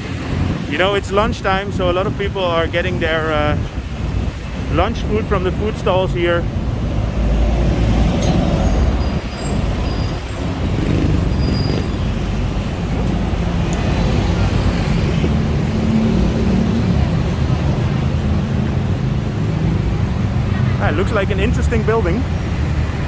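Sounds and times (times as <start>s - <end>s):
traffic engines and tyres rumbling: 0.0s - 23.0s.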